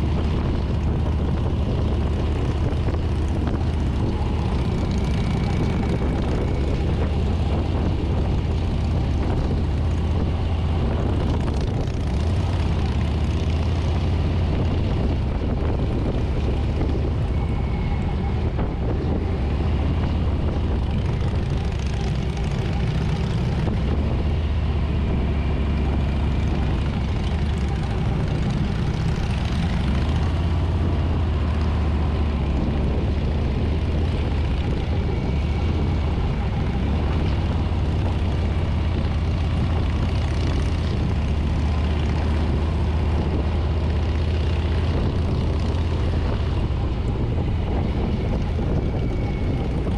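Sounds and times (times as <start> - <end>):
motorcycle engine drone: 0.0 - 49.9
wind rushing over microphone: 0.0 - 49.9.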